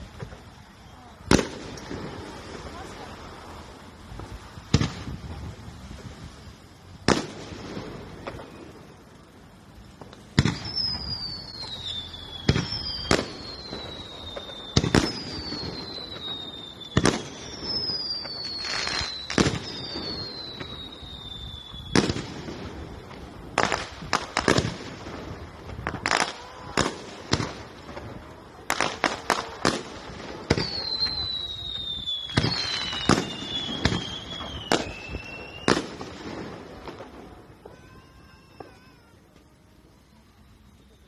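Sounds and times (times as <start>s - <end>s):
fireworks bangs: 0.0s - 39.5s
falling whistle of fireworks: 0.0s - 41.0s.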